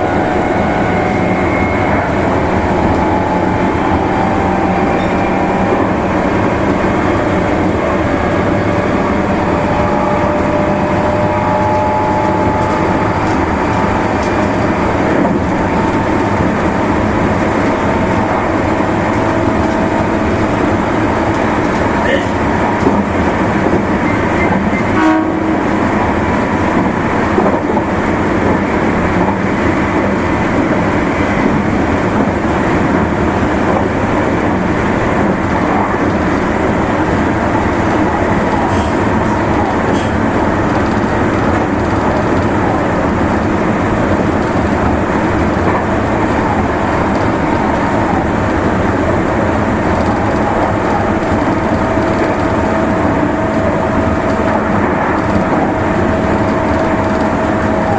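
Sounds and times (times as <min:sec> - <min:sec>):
electric train wheels rumbling: 0:00.0 - 0:57.9.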